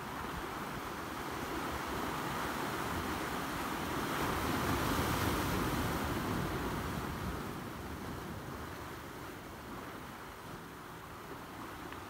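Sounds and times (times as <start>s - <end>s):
waves washing over boulders: 0.0s - 12.0s.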